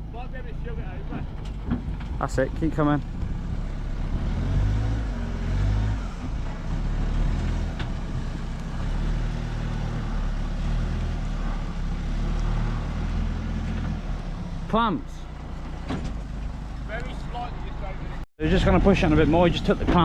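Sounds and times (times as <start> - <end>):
large diesel engine under load: 0.0 - 20.0.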